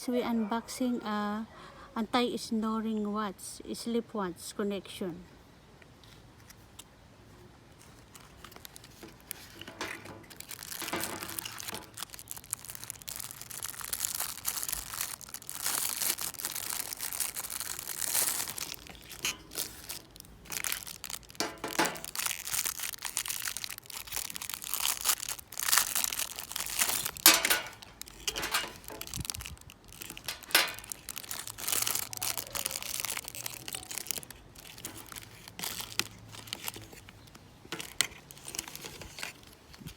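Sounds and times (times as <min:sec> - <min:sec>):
packaging crinkling and tearing: 0:07.8 - 0:39.9.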